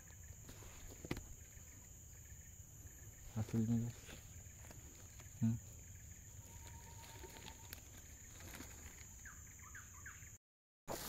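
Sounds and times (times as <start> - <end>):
high-pitched insect drone: 0.0 - 10.3
faint bird chirps: 0.0 - 10.4.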